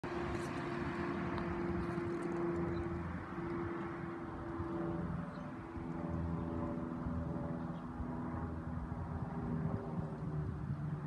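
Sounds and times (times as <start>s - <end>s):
propeller plane droning overhead: 0.0s - 11.0s.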